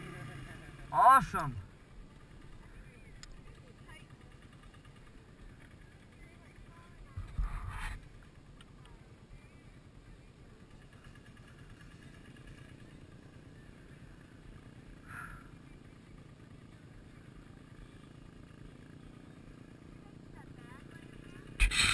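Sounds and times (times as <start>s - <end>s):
engine running low: 0.0s - 21.9s.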